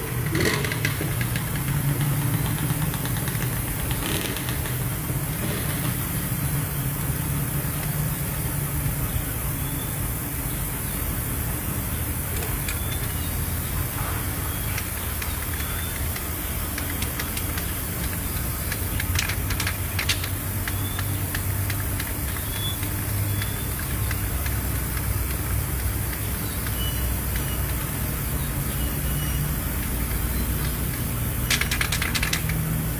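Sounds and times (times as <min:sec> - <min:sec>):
vehicle engine rumbling: 0:00.0 - 0:32.9.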